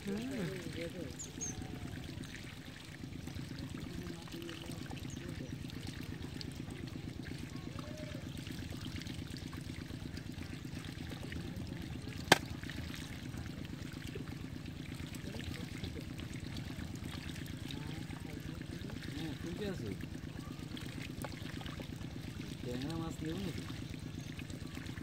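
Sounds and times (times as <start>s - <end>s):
water pouring and trickling: 0.0s - 25.0s.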